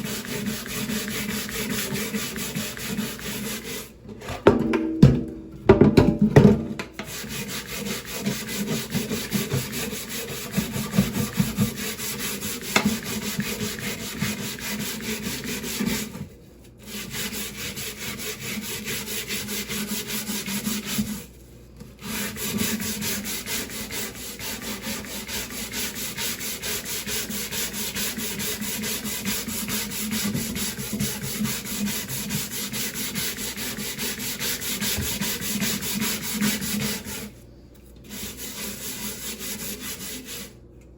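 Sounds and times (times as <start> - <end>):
scrubbing wooden chopping board: 0.0 - 3.9, 7.0 - 16.2, 16.8 - 21.3, 22.0 - 37.4, 38.1 - 40.5.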